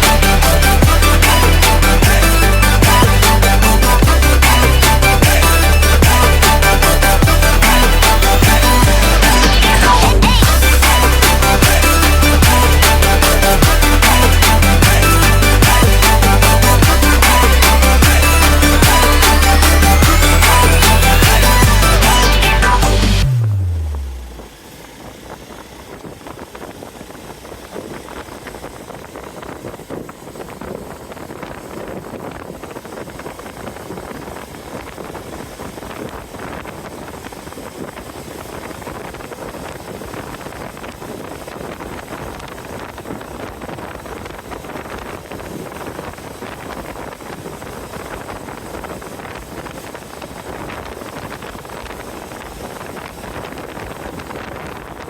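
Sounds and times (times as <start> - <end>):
motorcycle engine running: 0.0 - 47.2
wind noise on microphone: 0.0 - 55.0.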